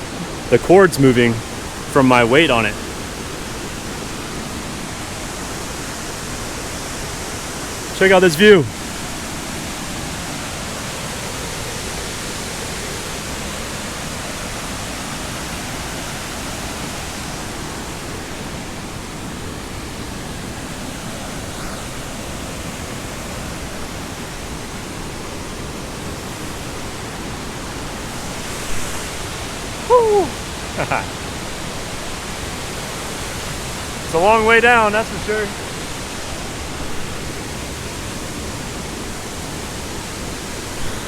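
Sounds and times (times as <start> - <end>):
rushing falling water: 0.0 - 41.0.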